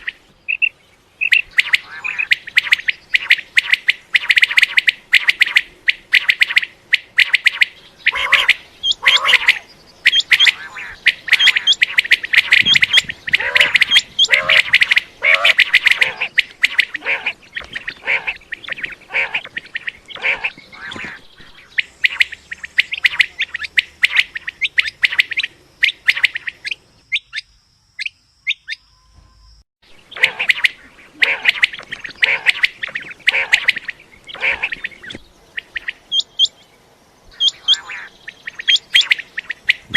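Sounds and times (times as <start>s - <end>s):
quail calling: 0.0s - 27.4s, 30.0s - 36.6s, 37.3s - 39.9s.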